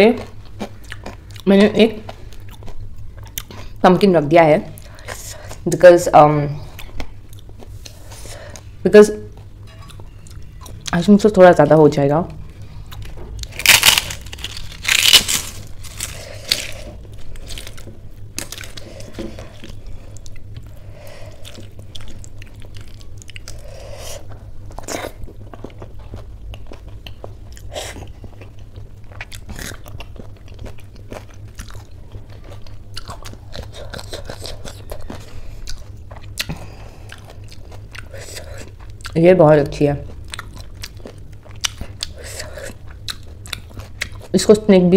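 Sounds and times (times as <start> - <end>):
chewing and crunching: 0.0 - 4.0, 6.6 - 11.1, 12.5 - 44.6.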